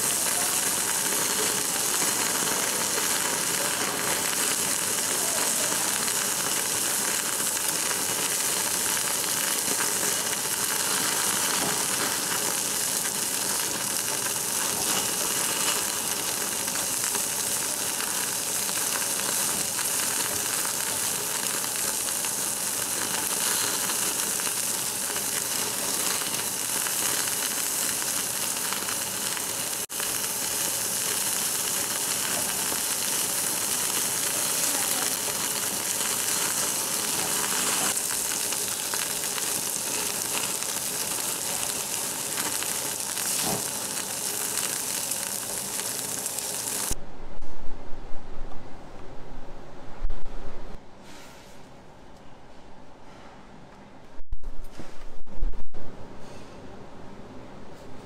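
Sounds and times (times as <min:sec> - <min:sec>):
pork sizzling on grill plate: 0:00.0 - 0:47.0.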